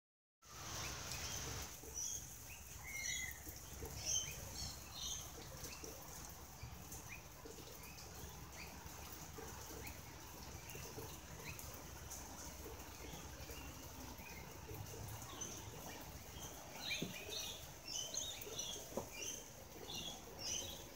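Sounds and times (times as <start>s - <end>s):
soft bird chirp: 0.5s - 12.2s, 12.9s - 20.9s.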